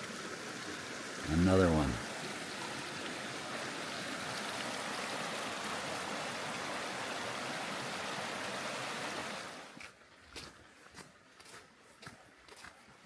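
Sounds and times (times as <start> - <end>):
river water flowing over rocks: 0.0 - 10.5.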